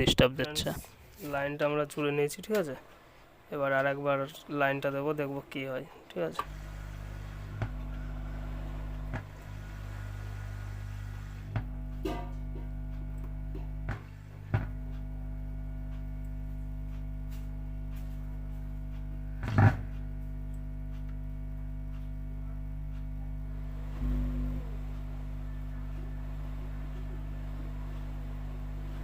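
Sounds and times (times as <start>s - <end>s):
speaker mains hum: 0.0s - 29.0s.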